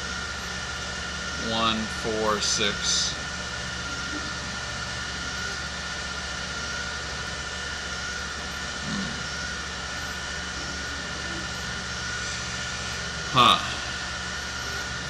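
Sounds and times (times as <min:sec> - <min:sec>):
faint high whine: 0:00.0 - 0:15.0
low hum: 0:00.0 - 0:15.0.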